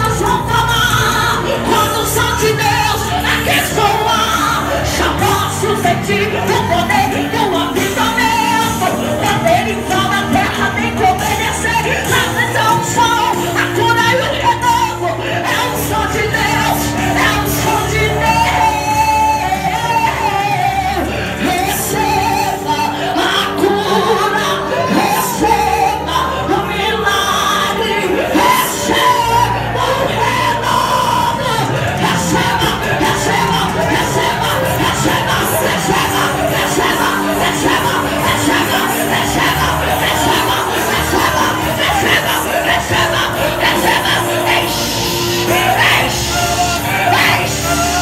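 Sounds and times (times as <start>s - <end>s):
amplified worship music: 0.0s - 48.0s
band accompaniment with bass: 0.0s - 48.0s
woman singing into a microphone: 0.0s - 48.0s.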